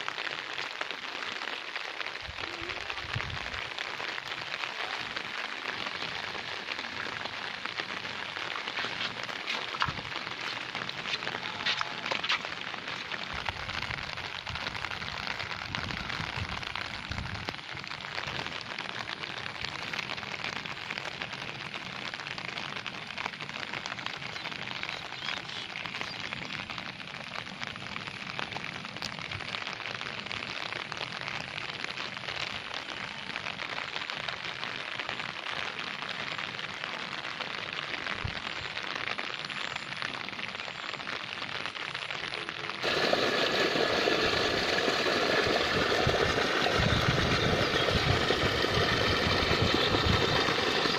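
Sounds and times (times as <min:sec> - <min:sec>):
steady rain on wet ground: 0:00.0 - 0:50.9.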